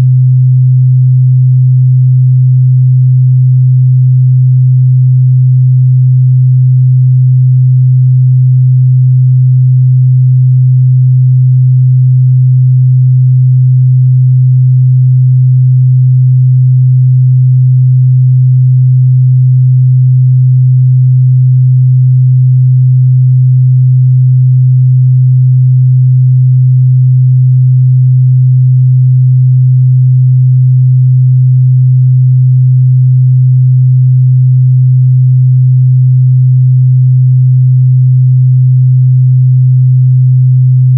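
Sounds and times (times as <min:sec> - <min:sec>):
low sine-wave test tone: 0:00.0 - 0:40.9.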